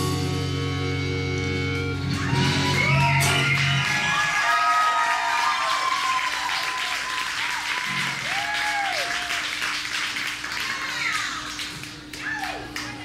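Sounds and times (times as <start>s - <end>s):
audience clapping and cheering: 1.8s - 13.0s.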